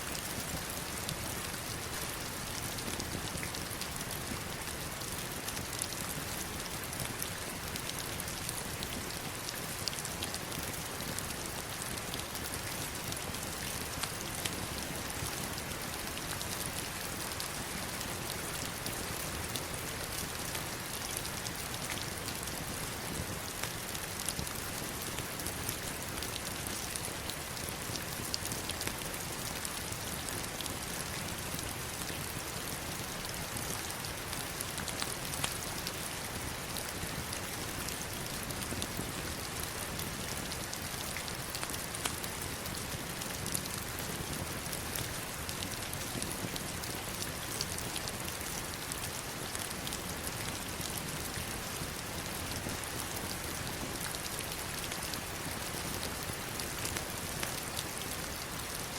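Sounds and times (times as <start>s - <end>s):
heavy rain on stones and water: 0.0s - 58.9s.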